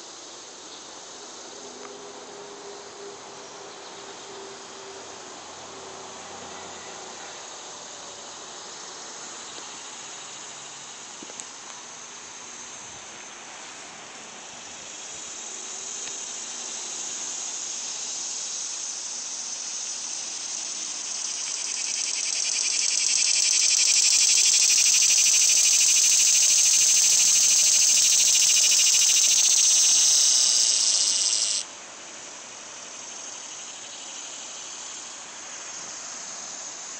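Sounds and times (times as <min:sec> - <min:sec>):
cicadas buzzing: 0:00.0 - 0:36.9.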